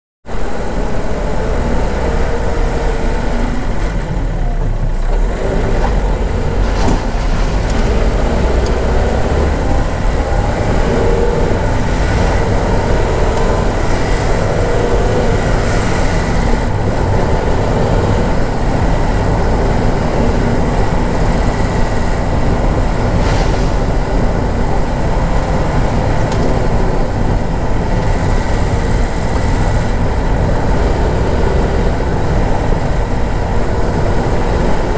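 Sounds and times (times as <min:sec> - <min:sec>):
car engine and tyres rumbling: 0:00.2 - 0:34.9.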